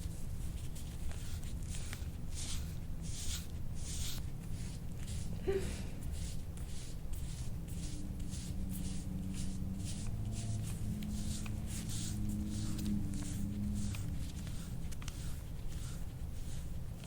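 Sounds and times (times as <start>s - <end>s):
scraping tool stroked over skin: 0.0s - 17.0s.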